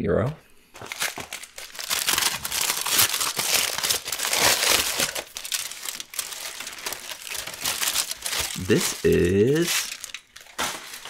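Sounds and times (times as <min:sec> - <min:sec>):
aluminium foil crinkling: 0:00.8 - 0:11.0.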